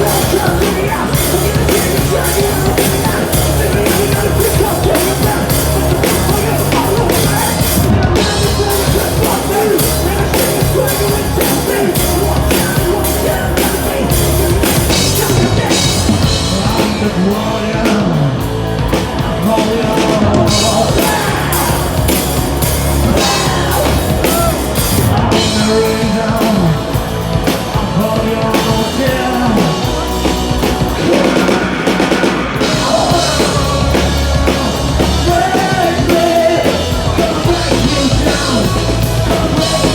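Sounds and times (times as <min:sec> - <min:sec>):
bass guitar: 0:00.0 - 0:39.9
distorted electric guitars: 0:00.0 - 0:39.9
person singing: 0:00.0 - 0:39.9
pounding drum kit: 0:00.0 - 0:39.9.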